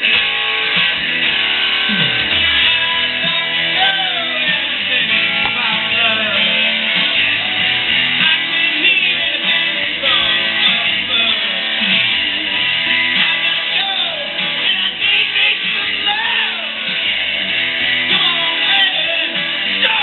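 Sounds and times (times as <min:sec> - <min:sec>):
electric guitar rock music: 0:00.0 - 0:20.0.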